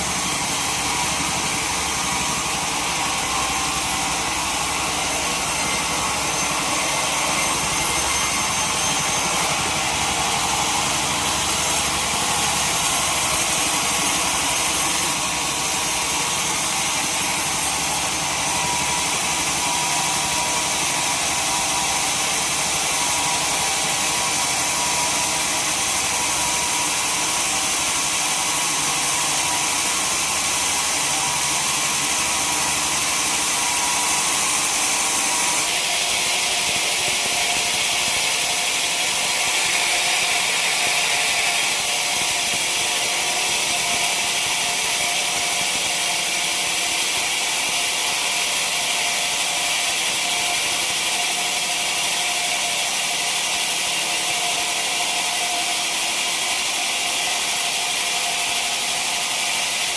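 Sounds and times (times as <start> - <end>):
sawmill saw cutting timber: 0.0 - 59.9.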